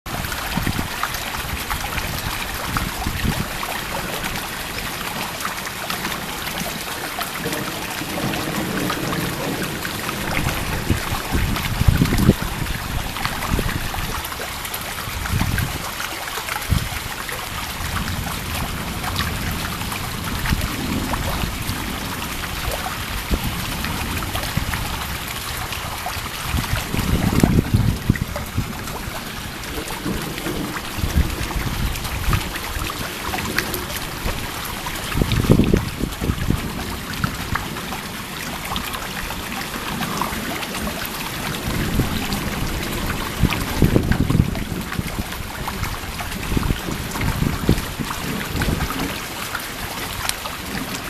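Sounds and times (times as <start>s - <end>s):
thunder rumbling: 0.1s - 16.0s, 16.6s - 50.0s
steady rain: 0.1s - 51.0s.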